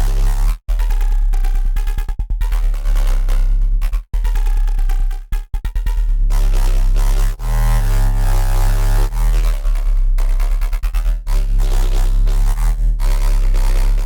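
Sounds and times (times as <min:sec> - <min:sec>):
synth bass riff with stuttering: 0:00.0 - 0:14.0.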